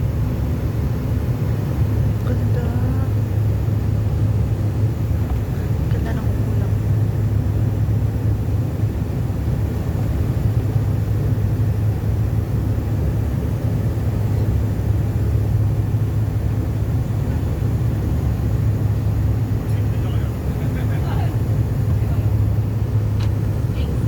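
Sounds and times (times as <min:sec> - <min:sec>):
airliner cabin engine drone: 0:00.0 - 0:24.0.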